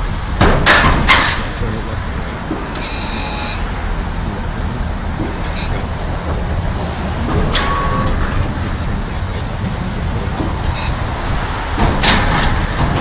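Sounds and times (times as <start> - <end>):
truck engine idling: 0.1 - 13.0
hydraulic hiss and whine: 1.4 - 13.0.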